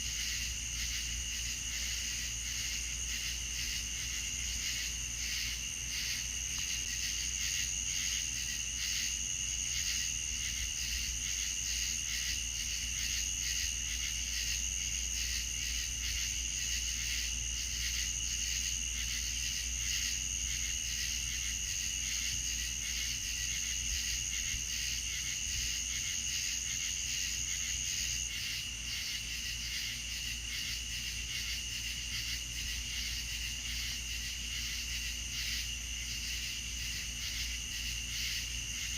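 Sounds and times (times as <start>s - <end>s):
high continuous cricket trill: 0.0s - 38.9s
lower pulsing insect chorus: 0.0s - 38.9s.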